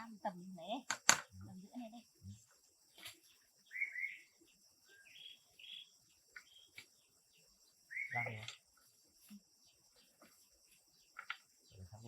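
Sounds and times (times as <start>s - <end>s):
high insect drone: 0.0s - 12.0s
bird chirps: 2.2s - 12.0s.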